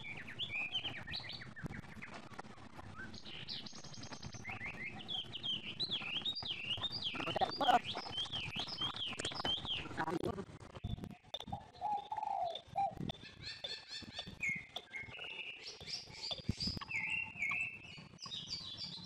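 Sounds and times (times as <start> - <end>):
small birds chirping and twittering: 0.0 - 19.0.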